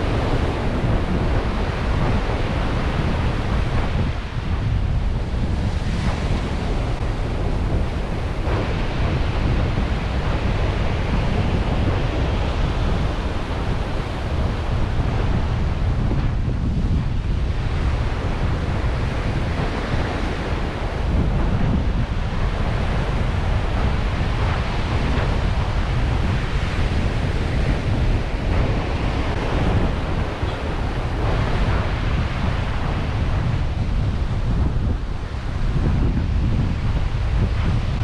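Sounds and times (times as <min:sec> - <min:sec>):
ocean surf washing: 0:00.0 - 0:38.0
wind buffeting microphone: 0:00.0 - 0:38.0.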